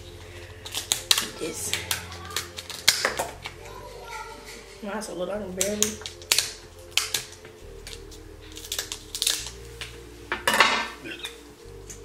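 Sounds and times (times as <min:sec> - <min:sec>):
shells cracking: 0:00.2 - 0:03.6, 0:05.6 - 0:12.0.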